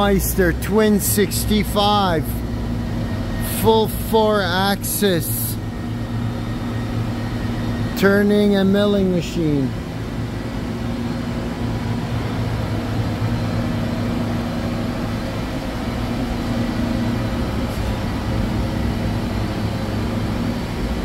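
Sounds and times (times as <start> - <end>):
idle machine hum: 0.0 - 21.0.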